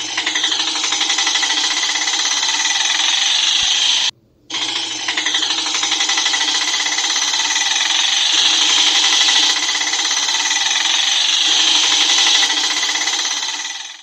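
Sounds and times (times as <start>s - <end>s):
small engine rattling: 0.0s - 14.0s.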